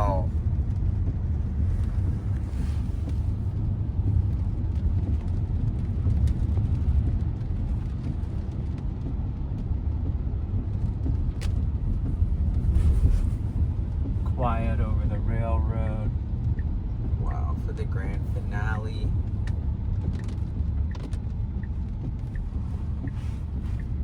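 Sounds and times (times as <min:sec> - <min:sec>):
road and tyre rumble in car: 0:00.0 - 0:24.0.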